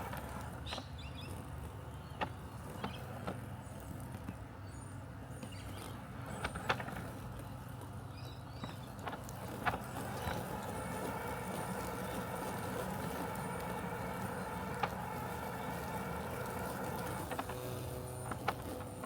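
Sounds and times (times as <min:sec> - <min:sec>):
robotic lawn mower humming: 0:00.0 - 0:19.0.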